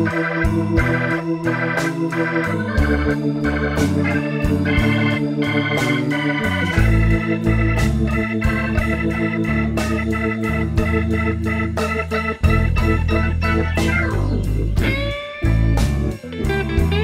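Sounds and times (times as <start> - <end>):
instrumental keyboard music with beat: 0.0 - 17.0.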